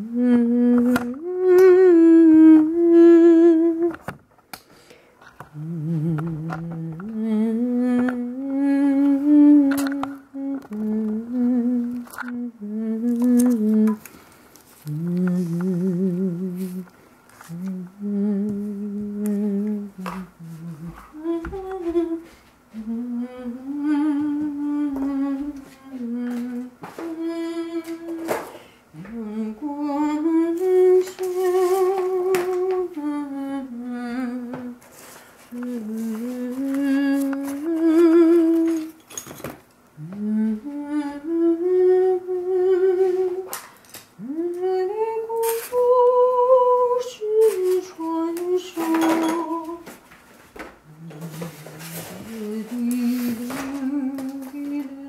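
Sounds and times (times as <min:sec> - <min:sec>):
person humming: 0:00.0 - 0:04.1, 0:05.4 - 0:14.1, 0:14.8 - 0:34.8, 0:35.5 - 0:39.0, 0:40.0 - 0:43.5, 0:44.2 - 0:49.9, 0:50.8 - 0:55.0.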